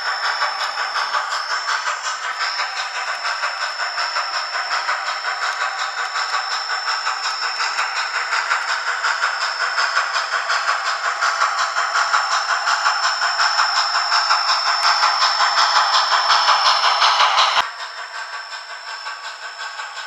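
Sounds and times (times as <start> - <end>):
steam locomotive chuffing from speaker: 0.0 - 20.0.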